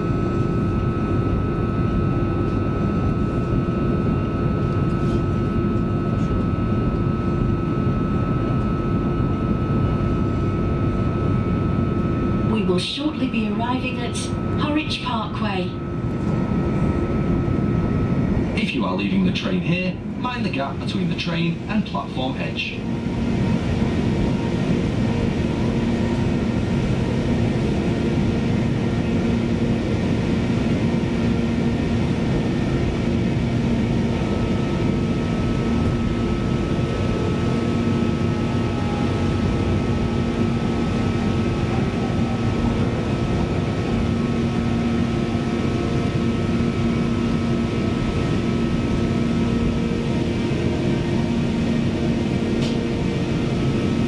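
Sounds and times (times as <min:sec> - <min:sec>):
steady humming tones: 0:00.0 - 0:54.0
train rumbling on track: 0:00.0 - 0:54.0.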